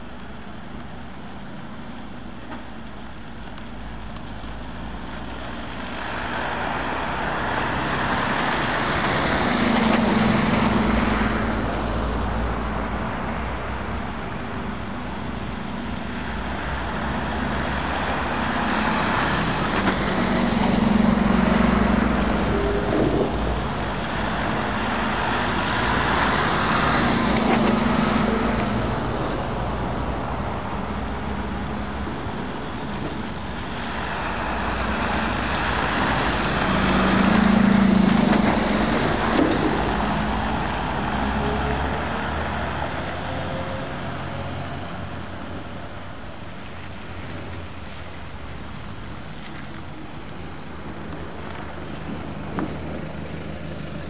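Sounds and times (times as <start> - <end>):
diesel trucks driving past: 0.0 - 54.0
tyres spraying through puddles: 1.9 - 54.0.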